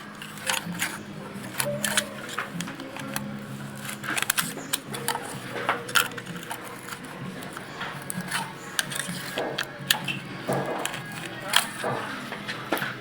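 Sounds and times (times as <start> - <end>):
hand tools clicking and clinking: 0.0 - 13.0.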